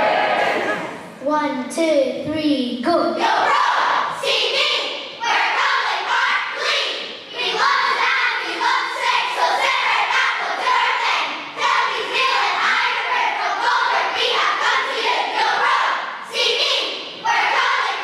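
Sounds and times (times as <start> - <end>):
children's choir singing: 0.0 - 1.2, 3.2 - 18.0.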